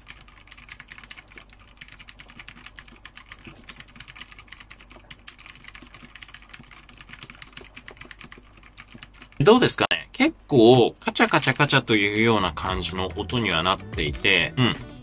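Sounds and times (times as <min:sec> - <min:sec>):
fast mechanical keyboard typing: 0:00.0 - 0:09.8, 0:11.0 - 0:13.8.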